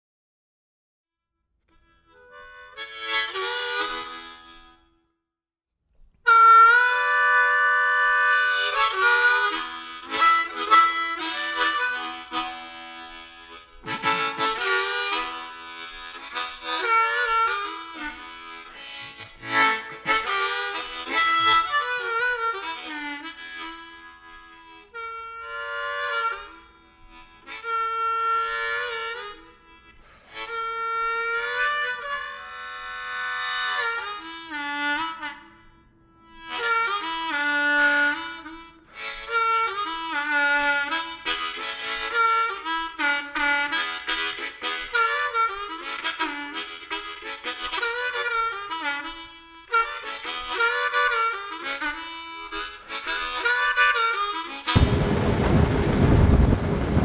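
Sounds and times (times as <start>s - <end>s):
harmonica background music: 1.4s - 5.2s, 6.2s - 56.0s.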